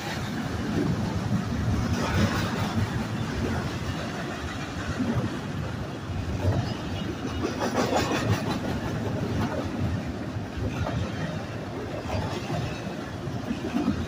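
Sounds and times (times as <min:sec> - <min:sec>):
steel wheels rumbling on rail: 0:00.0 - 0:14.0.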